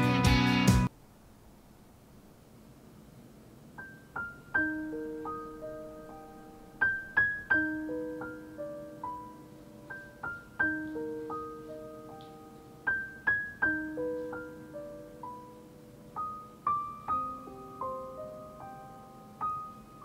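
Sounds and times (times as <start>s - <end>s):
soft piano music: 3.7s - 20.0s.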